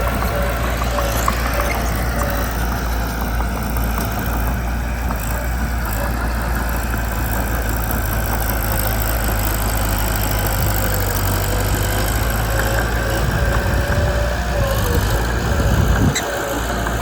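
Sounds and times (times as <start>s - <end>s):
bulldozer diesel engine rumbling: 0.0s - 17.0s
faint engine whine: 0.0s - 17.0s.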